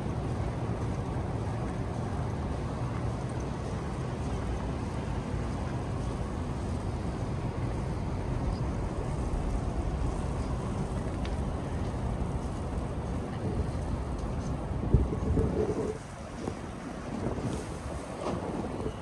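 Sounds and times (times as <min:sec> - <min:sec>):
busy city street rumble: 0:00.0 - 0:19.0.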